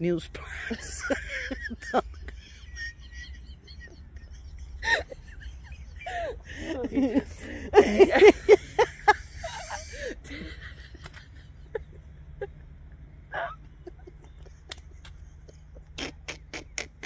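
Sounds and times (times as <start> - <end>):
women laughing breathlessly: 0.4 - 12.7, 13.3 - 16.3.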